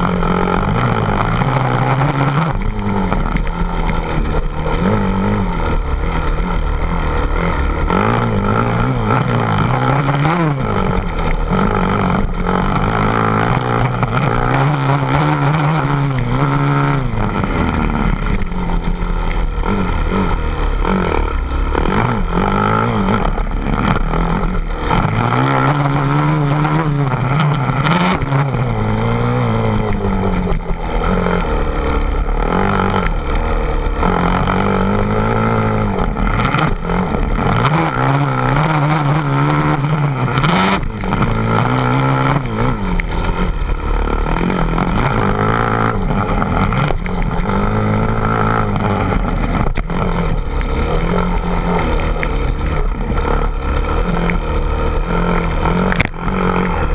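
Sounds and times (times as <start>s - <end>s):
engine revving: 0.0s - 56.9s.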